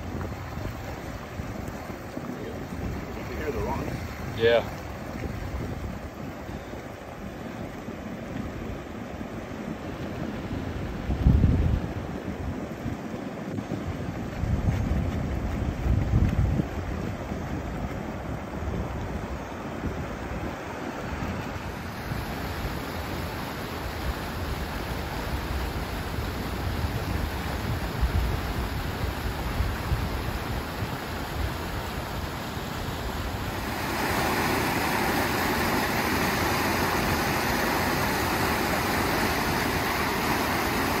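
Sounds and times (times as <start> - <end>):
floodwater rushing: 0.0 - 41.0
wind rumbling on microphone: 0.0 - 41.0.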